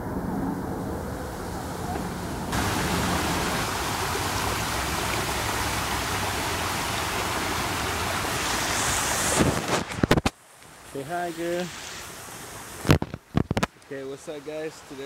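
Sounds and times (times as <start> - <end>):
creek water rushing over rocks: 1.9 - 15.0.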